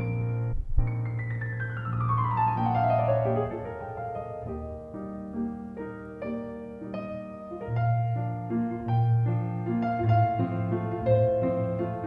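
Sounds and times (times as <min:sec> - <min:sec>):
piano playing: 0:00.0 - 0:12.0.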